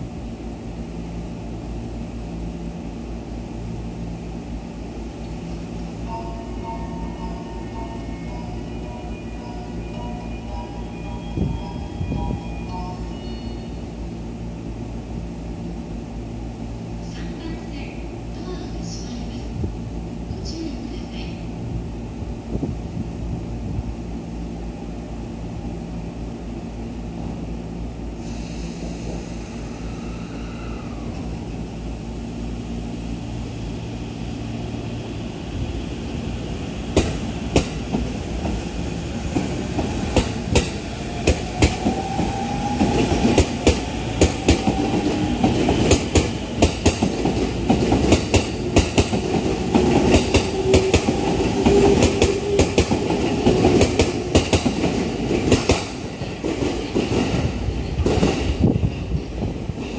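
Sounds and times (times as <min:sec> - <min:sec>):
train low hum: 0:00.0 - 0:59.9.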